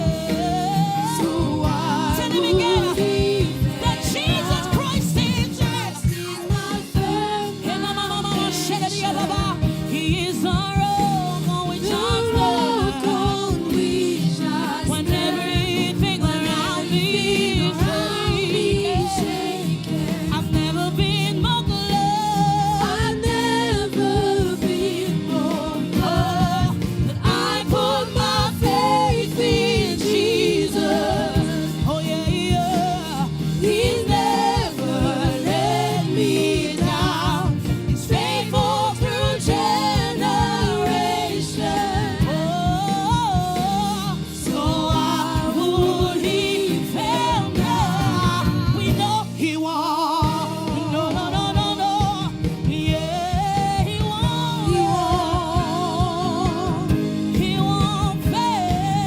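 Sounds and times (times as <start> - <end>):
instrumental accompaniment: 0.0 - 49.6
gospel choir singing: 0.0 - 59.0.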